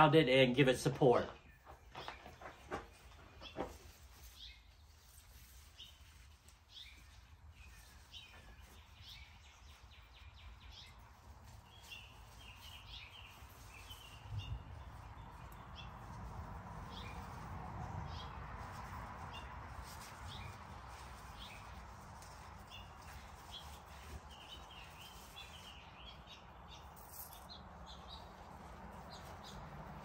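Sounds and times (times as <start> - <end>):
faint songbirds chirping: 0.0 - 30.0
soft rustling: 1.5 - 30.0.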